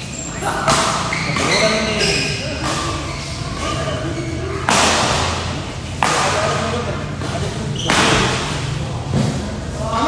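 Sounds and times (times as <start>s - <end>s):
badminton racket hitting shuttlecock: 0.5s - 8.6s.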